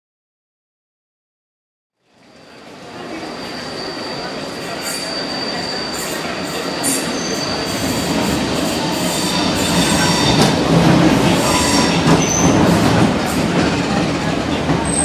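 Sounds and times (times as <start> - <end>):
train wheels squealing on rails: 2.2 - 15.0
train rumble: 2.5 - 15.0.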